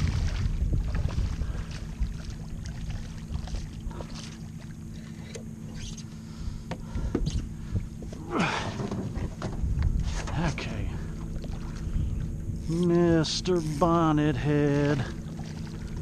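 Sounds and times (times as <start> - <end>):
wind rumble on microphone: 0.0 - 4.2, 5.7 - 16.0
faint steady hum: 0.0 - 16.0
water lapping against canoe: 0.0 - 16.0.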